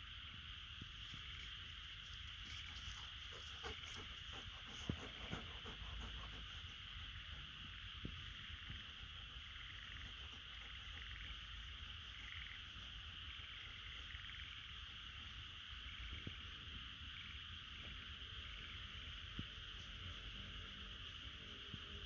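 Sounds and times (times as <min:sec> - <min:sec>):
insect chorus buzzing: 0:00.0 - 0:22.0
faint ticks: 0:00.8 - 0:22.0.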